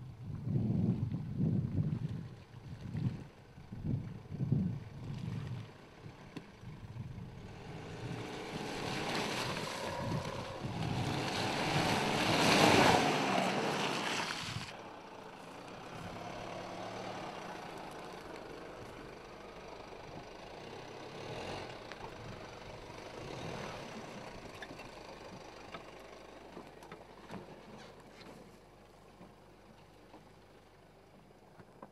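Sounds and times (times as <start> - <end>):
tyres rushing through mud and water: 1.7 - 31.4
diesel engine running: 3.3 - 31.9.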